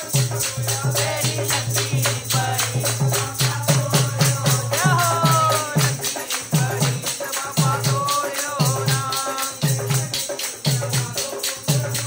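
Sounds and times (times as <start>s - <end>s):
hand drum beating: 0.0s - 12.0s
jingling hand percussion: 0.0s - 12.0s
person singing: 0.0s - 12.0s.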